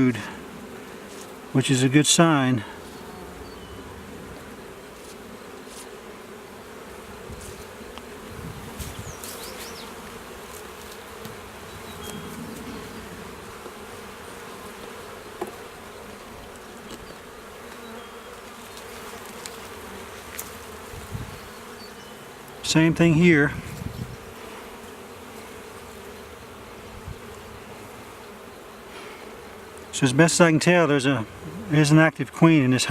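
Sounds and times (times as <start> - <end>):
bees buzzing: 0.0 - 32.9.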